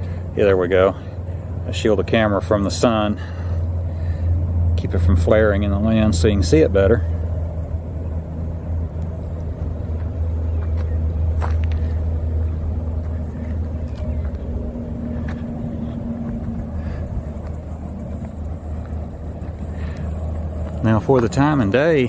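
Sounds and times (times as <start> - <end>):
faint vehicle tone: 0.0 - 22.0
highway traffic rumble: 0.0 - 22.0.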